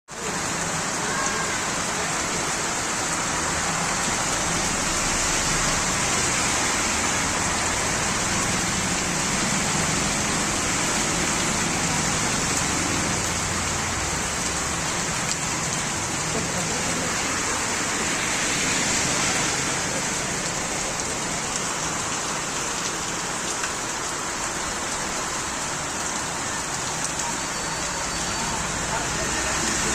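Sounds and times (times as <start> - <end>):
rain falling: 0.1 - 29.9.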